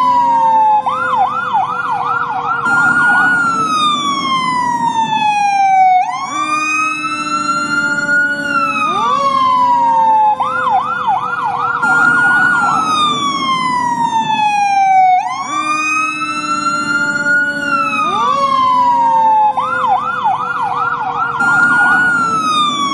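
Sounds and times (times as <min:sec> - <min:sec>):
fire truck siren: 0:00.0 - 0:22.9.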